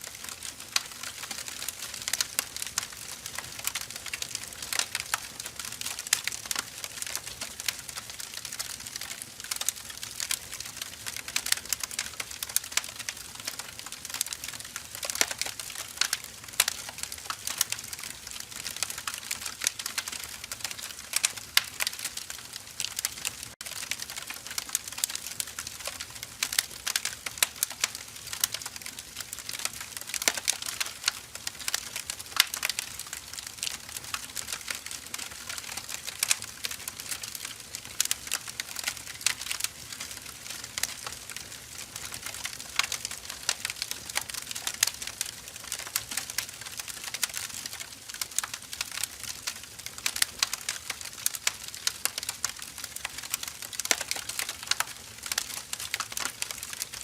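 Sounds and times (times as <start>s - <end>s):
firewood crackling: 0.0s - 57.0s.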